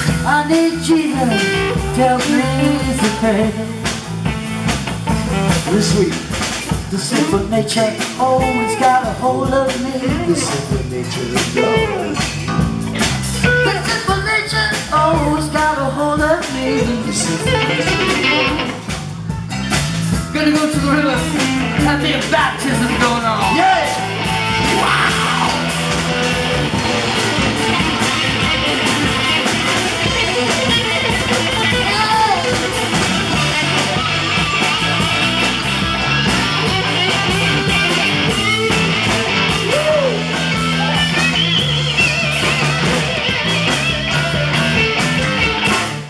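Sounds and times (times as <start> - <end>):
bass guitar: 0.0 - 46.0
drum kit: 0.0 - 46.0
electric guitar: 0.0 - 46.0.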